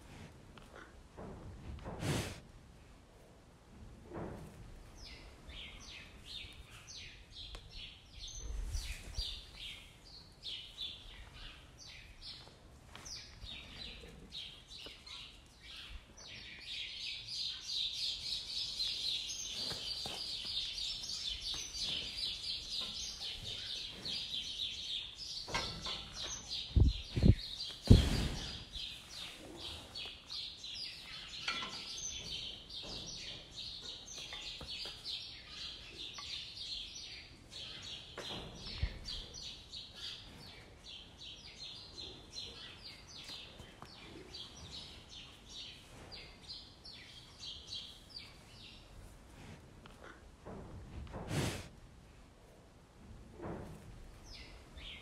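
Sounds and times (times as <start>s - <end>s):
small birds chirping: 4.9s - 49.1s, 54.1s - 55.0s.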